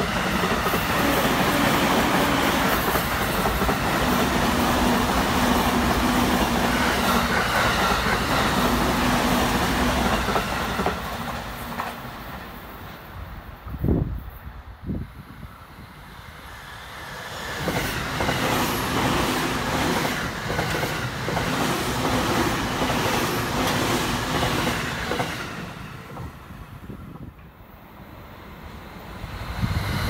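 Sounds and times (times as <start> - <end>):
train wheels on rails passing: 0.0 - 30.0.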